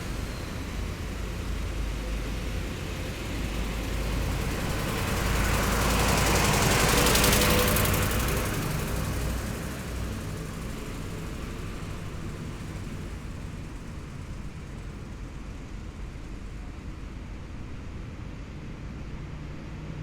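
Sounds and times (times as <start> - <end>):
heavy vehicle engines running: 0.0 - 20.0.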